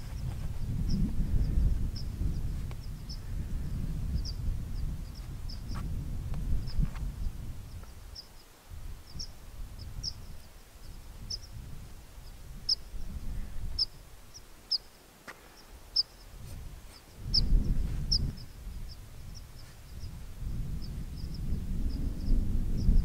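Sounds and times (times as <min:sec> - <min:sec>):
small bird chirping: 0:00.0 - 0:05.8, 0:07.7 - 0:11.6, 0:12.2 - 0:23.0
wind gusting on microphone: 0:00.0 - 0:14.8, 0:15.6 - 0:23.0.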